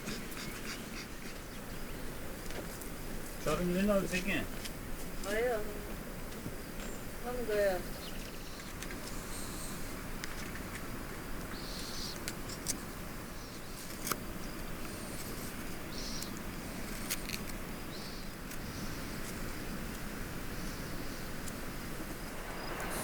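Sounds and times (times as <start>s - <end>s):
soft steady hiss: 0.0s - 23.0s.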